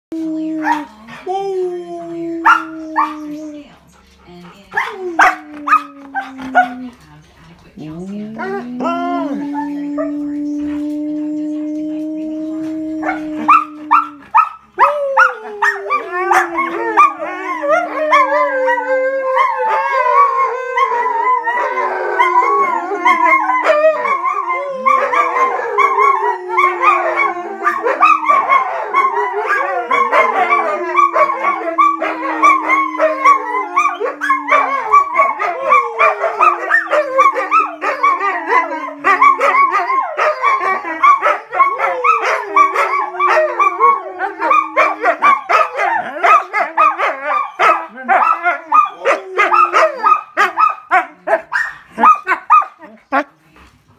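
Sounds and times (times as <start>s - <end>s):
dogs howling: 0.1s - 7.1s, 8.0s - 53.0s
dogs yipping and whining: 2.4s - 7.1s, 8.1s - 53.0s.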